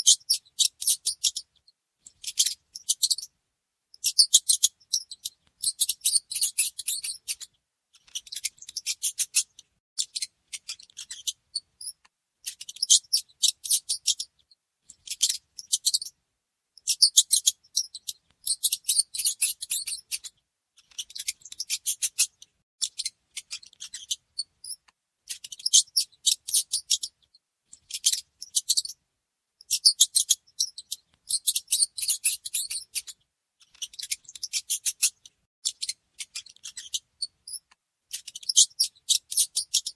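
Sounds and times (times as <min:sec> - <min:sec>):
mouse squeaking: 0:00.0 - 0:16.2, 0:16.8 - 0:29.0, 0:29.6 - 0:39.9.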